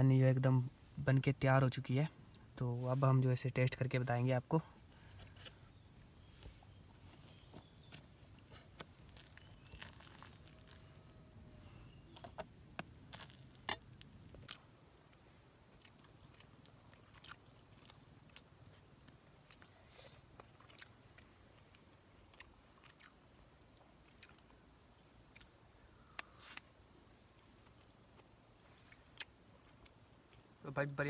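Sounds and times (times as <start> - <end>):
quiet eating sounds: 0.1 - 31.0.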